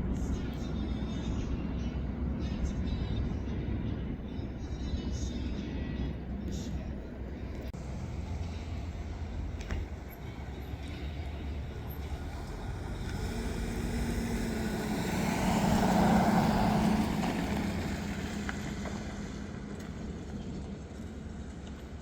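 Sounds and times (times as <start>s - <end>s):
vehicle passing by: 0.0s - 21.7s
low outdoor rumble: 0.0s - 22.0s.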